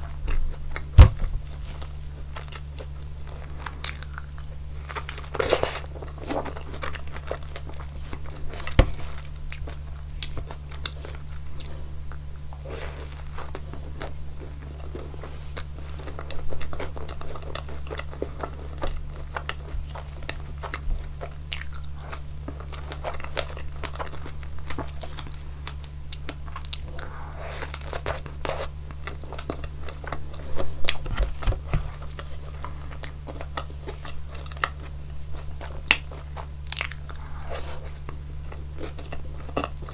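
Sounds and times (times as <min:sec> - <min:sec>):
crunchy biting and chewing: 0:00.0 - 0:39.9
steady low hum: 0:00.0 - 0:39.9.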